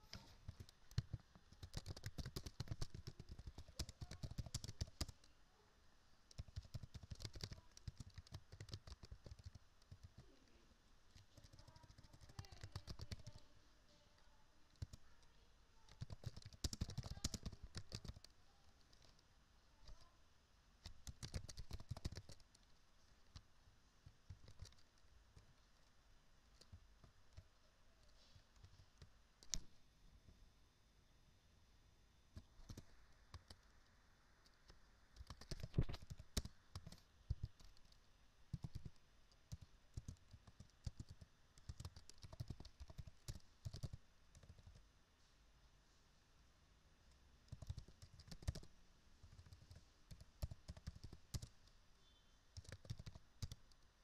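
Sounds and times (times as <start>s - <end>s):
faint keyboard typing: 0.0s - 5.4s, 6.2s - 20.2s, 20.8s - 29.8s, 32.3s - 44.9s, 47.1s - 54.0s.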